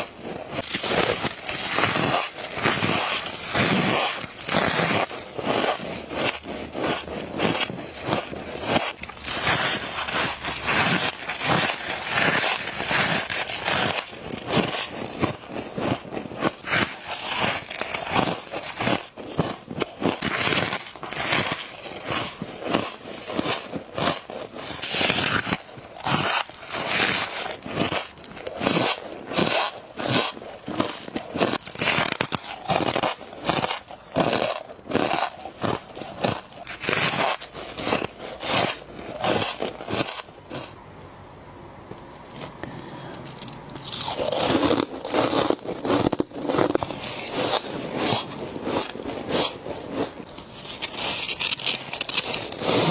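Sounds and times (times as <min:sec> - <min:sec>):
chewing crunchy frost: 0:00.0 - 0:40.8, 0:43.1 - 0:52.9.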